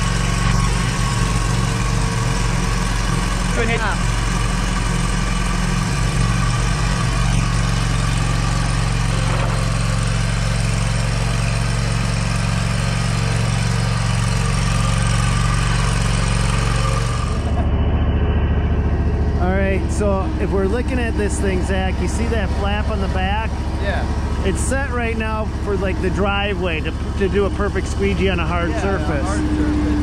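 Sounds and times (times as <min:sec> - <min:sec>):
mower engine running: 0:00.0 - 0:30.0.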